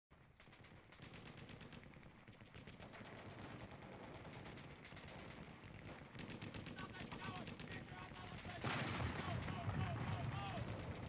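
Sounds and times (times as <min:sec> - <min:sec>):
faint automatic gunfire: 0:00.1 - 0:11.0.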